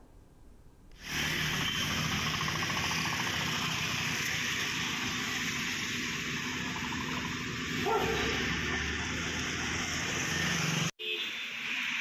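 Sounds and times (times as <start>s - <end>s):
vehicle engines running: 1.0s - 10.9s.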